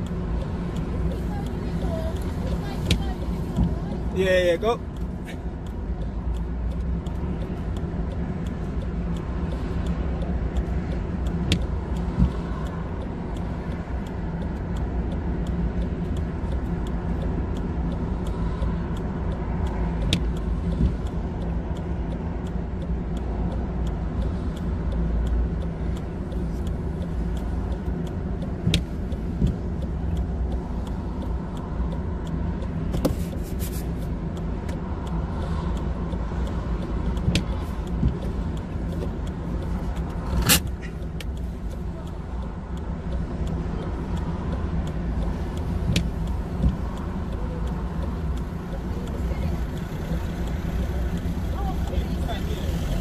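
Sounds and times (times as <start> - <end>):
car clicks and creaks: 0.0 - 53.0.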